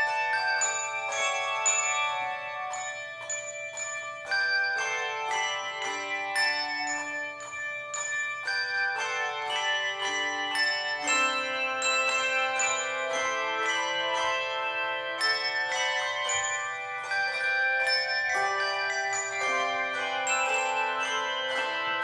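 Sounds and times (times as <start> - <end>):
handbells ringing chords: 0.0 - 22.0.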